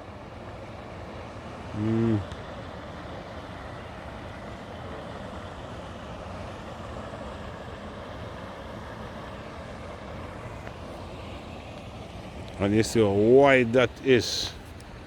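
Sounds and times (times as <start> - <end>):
steady traffic noise: 0.0 - 15.0.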